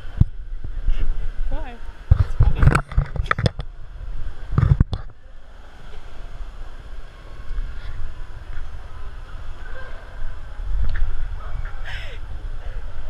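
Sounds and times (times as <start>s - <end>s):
shopping mall background noise: 0.0s - 13.0s
wind rumble: 0.0s - 13.0s.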